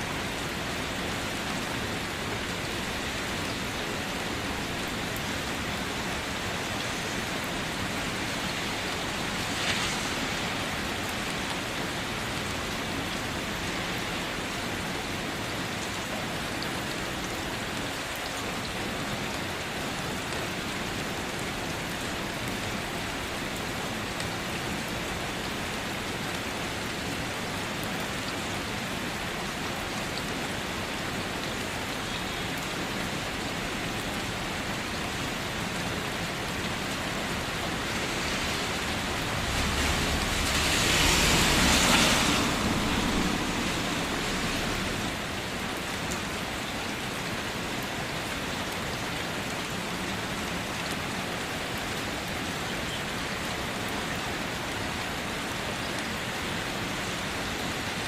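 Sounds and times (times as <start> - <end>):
rain drumming on a car: 0.0 - 58.0.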